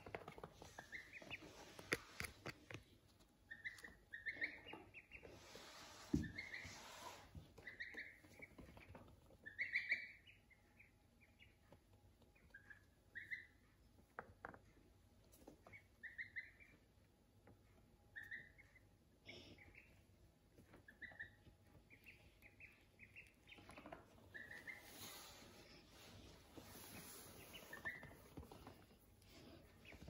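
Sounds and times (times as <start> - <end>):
ducklings peeping: 0.0 - 30.0.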